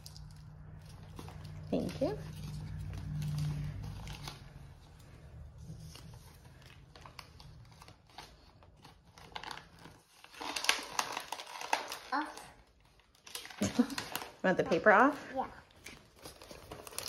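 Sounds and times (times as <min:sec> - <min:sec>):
paper crinkling and rustling: 0:00.0 - 0:17.0.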